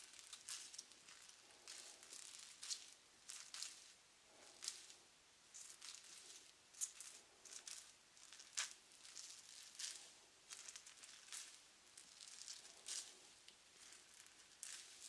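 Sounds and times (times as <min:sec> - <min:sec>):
crinkly brushing on microphone: 0:00.0 - 0:15.0.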